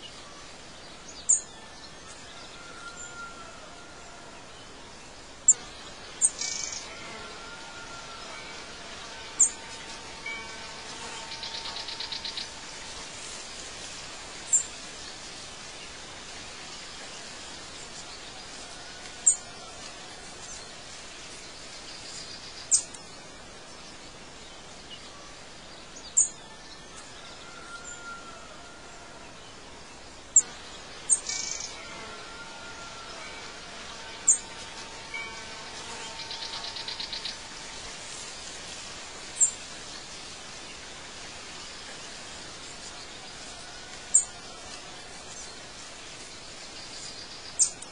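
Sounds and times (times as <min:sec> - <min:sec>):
steady hiss: 0:00.0 - 0:47.9.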